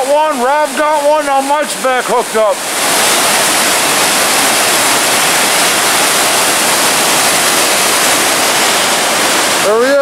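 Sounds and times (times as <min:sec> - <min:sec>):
fast creek water rushing: 0:00.0 - 0:10.0.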